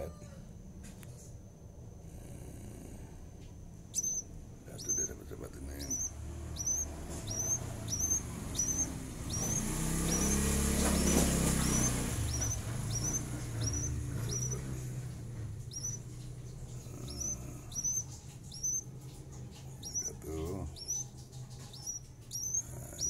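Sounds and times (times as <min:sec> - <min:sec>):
bird chirping: 0:03.8 - 0:23.0.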